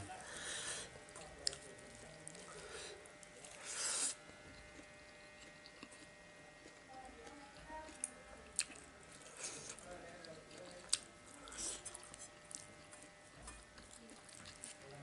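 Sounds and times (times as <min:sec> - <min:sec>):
person eating rice: 0:00.0 - 0:07.2, 0:07.9 - 0:15.0
quiet chewing: 0:00.2 - 0:15.0.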